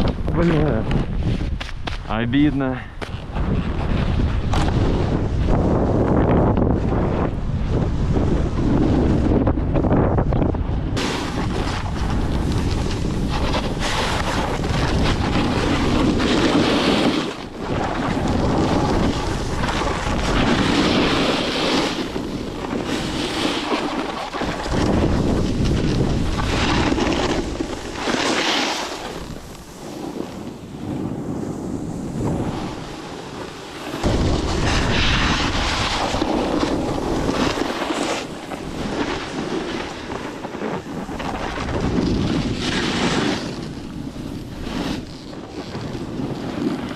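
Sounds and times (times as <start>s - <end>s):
blizzard wind buffeting microphone: 0.0s - 46.9s.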